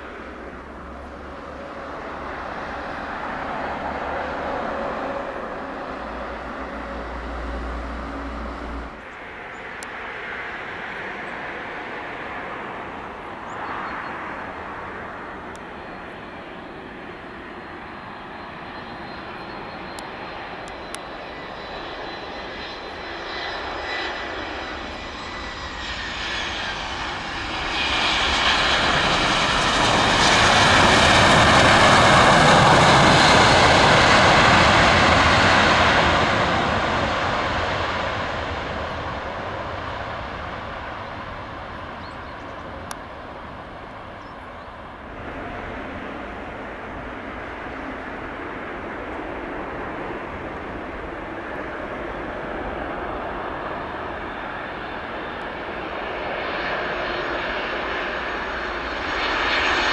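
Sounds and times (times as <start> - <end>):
jet engine low rumble: 0.0 - 59.9
jet engines whining: 0.0 - 59.9.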